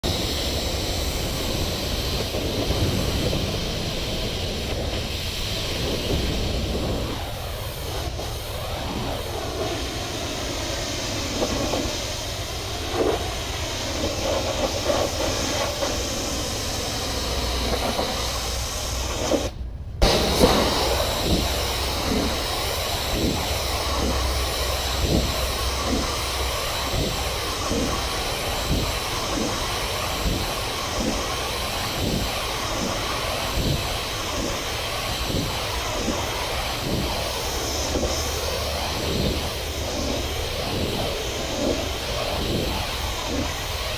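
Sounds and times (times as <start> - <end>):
high-pressure water spray hissing: 0.0 - 43.9
pressure washer engine humming: 0.0 - 43.9.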